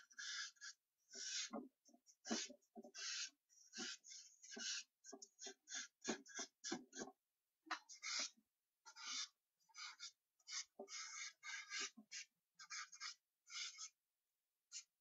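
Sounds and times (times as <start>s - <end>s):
charcoal scratching on paper: 0.1s - 1.6s, 2.2s - 7.1s, 7.8s - 14.0s.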